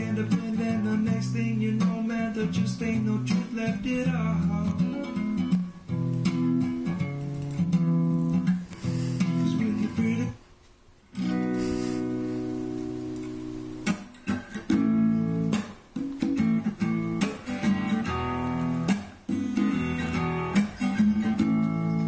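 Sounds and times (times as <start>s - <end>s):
acoustic guitar strumming chords: 0.0s - 10.4s, 11.1s - 22.0s.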